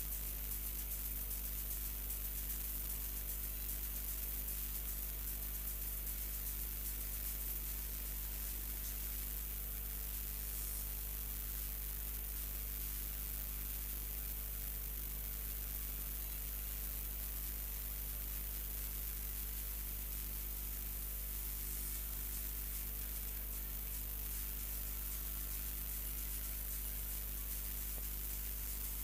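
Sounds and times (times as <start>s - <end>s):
low electrical hum: 0.0s - 29.0s
static hiss: 0.0s - 29.0s.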